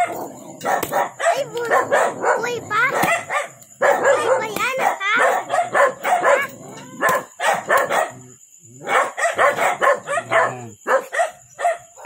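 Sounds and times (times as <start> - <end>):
dog barking: 0.0 - 12.0.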